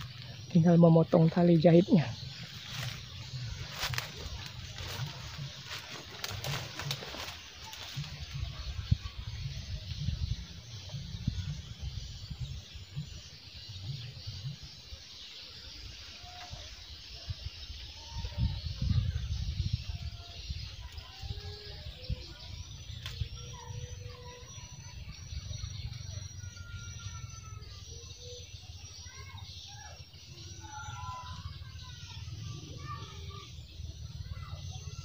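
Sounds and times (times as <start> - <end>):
birds chirping and whistling: 0.0 - 35.0.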